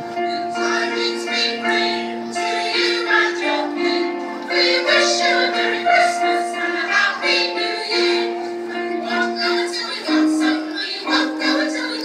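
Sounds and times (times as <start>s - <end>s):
choir singing long held notes: 0.1s - 12.0s.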